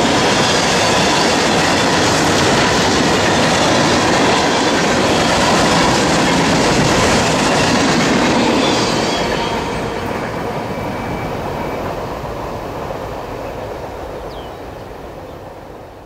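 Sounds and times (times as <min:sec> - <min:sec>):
freight train cars clattering past: 0:00.0 - 0:14.7.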